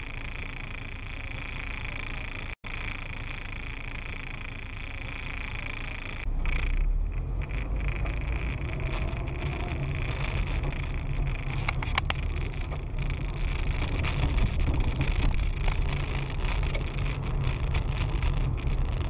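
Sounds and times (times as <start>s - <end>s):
car engine and road noise: 0.0s - 19.0s
sharp clicks: 2.1s - 19.0s.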